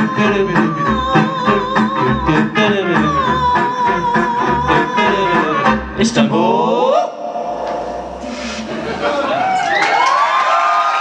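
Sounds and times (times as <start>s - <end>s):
double bass: 0.0s - 9.4s.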